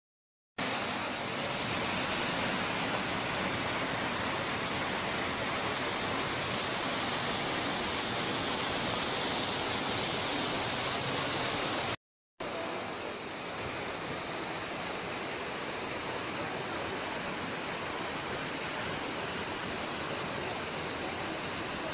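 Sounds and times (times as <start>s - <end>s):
waterfall pouring over rocks: 0.6s - 21.9s.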